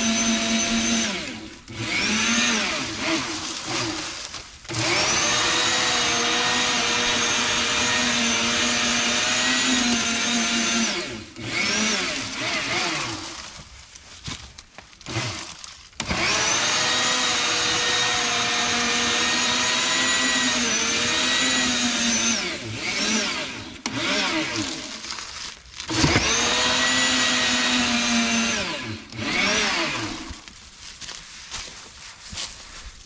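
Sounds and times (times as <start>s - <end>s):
electric tiller motor whining: 0.0s - 13.7s, 15.0s - 30.6s.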